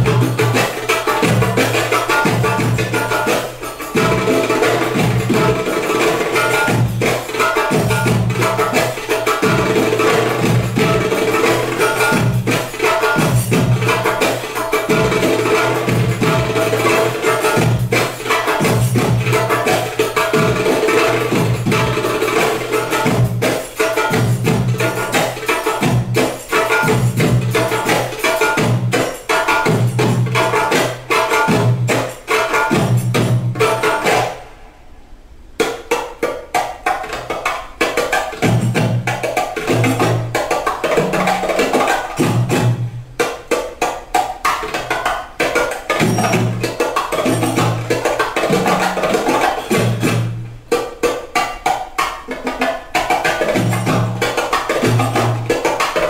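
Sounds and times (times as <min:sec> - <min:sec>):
music with percussive beat: 0:00.0 - 0:34.6, 0:35.6 - 0:56.0.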